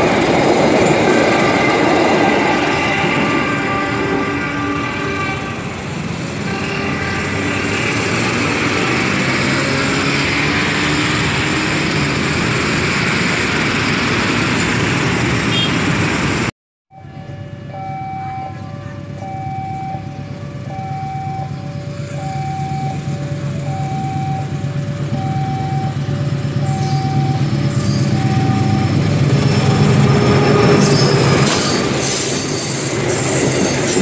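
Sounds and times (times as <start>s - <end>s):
train wheels rumbling on rail: 0.0s - 16.5s, 21.4s - 34.0s.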